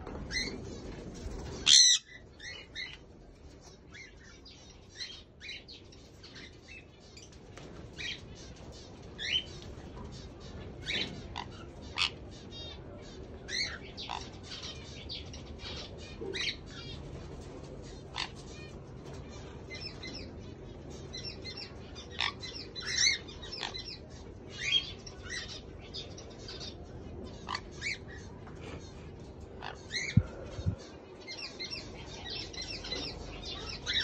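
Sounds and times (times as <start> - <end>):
parrots calling and chirping: 0.1 - 34.0.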